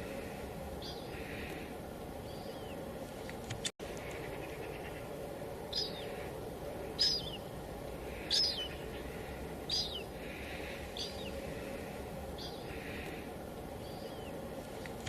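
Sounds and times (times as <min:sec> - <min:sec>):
bird calling: 0:00.0 - 0:15.0
light drizzle hiss: 0:00.0 - 0:15.0.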